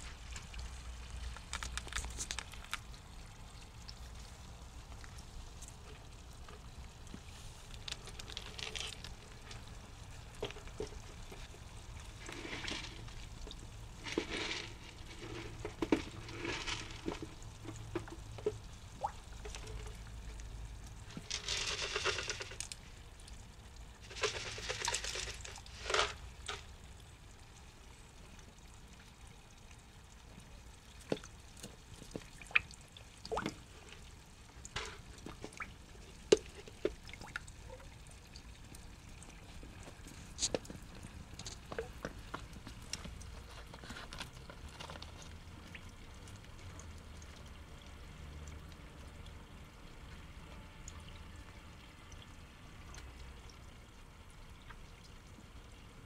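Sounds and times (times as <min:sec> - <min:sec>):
water sloshing and splashing: 0:00.0 - 0:27.7, 0:29.8 - 0:50.4.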